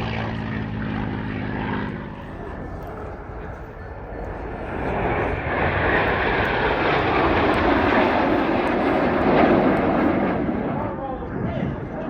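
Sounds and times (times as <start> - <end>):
aircraft engine: 0.0 - 12.0.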